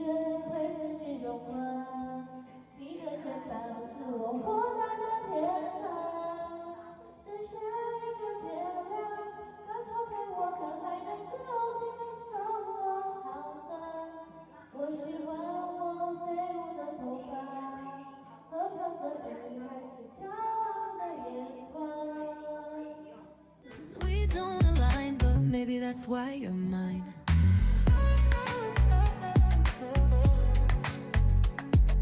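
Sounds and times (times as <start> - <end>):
woman singing: 0.0 - 17.8, 18.5 - 23.0, 23.6 - 27.3, 27.9 - 31.7
pop song: 0.0 - 32.0.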